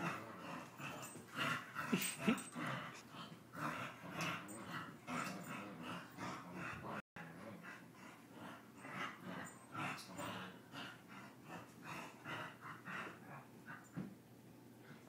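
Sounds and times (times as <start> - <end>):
dogs play-fighting breathy sounds: 0.0 - 15.0.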